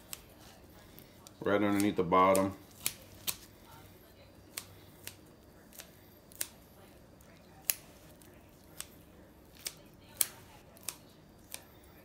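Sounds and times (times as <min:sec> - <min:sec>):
kitchen shears snipping chicken: 0:00.0 - 0:03.9, 0:04.5 - 0:12.0.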